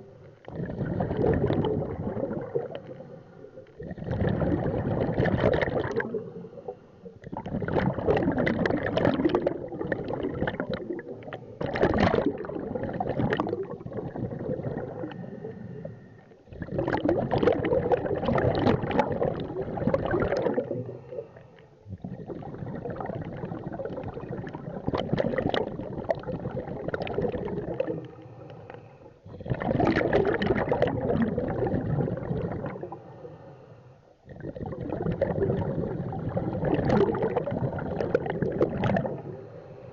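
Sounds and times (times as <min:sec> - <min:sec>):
gurgling exhaled bubbles: 0:00.0 - 0:28.4, 0:29.2 - 0:33.1, 0:34.2 - 0:39.6.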